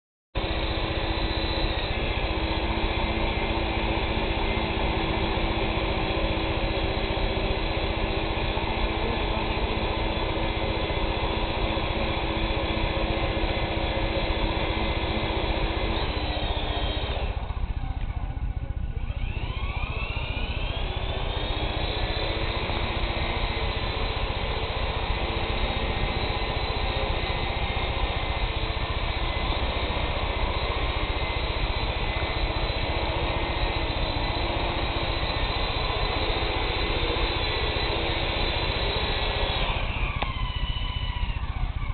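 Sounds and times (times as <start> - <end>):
model helicopter rotor whirring: 0.4 - 41.9.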